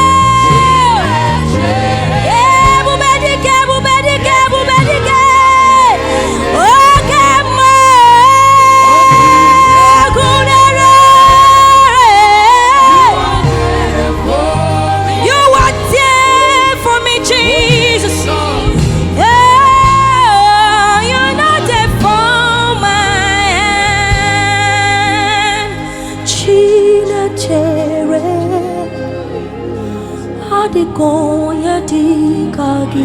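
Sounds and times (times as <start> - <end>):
low musical accompaniment: 0.0 - 33.0.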